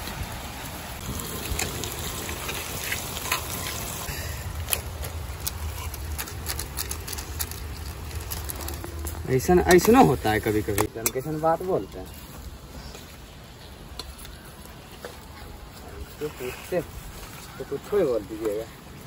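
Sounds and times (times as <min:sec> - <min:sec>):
wood fire crackles: 0:00.0 - 0:19.0.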